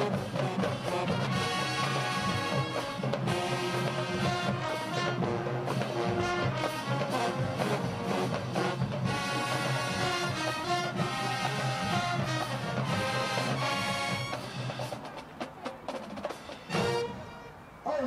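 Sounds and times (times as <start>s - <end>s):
marching band brass playing: 0.0s - 18.0s.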